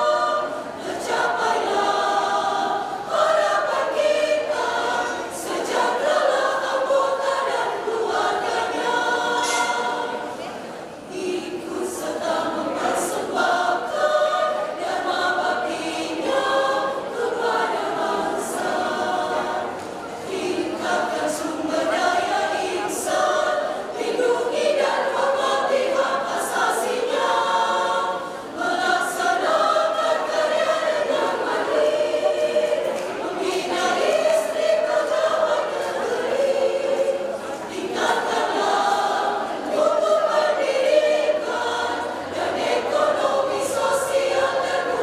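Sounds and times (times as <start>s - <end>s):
women's choir singing: 0.0s - 45.0s.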